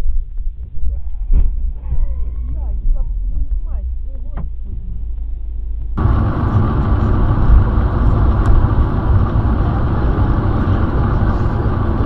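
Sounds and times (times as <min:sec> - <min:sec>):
low rumble: 0:00.0 - 0:12.0
car road and engine noise: 0:00.1 - 0:12.0.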